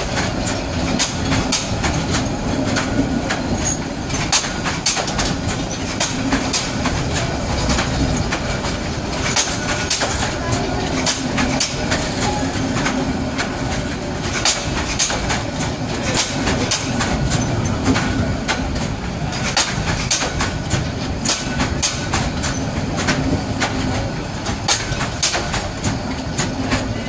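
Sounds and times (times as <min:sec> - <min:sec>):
train rumble: 0:00.0 - 0:27.0
train wheels clicking on rail joints: 0:00.0 - 0:27.0.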